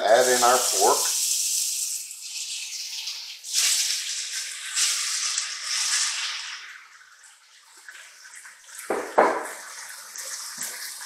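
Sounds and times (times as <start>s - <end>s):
pork sizzling in hot oil: 0.0s - 11.0s.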